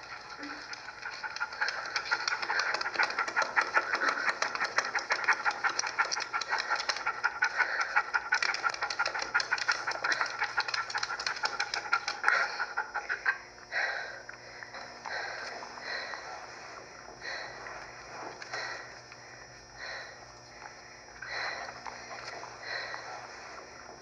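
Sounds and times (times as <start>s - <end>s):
dog panting: 0.0s - 14.2s, 14.8s - 19.0s, 21.2s - 24.0s.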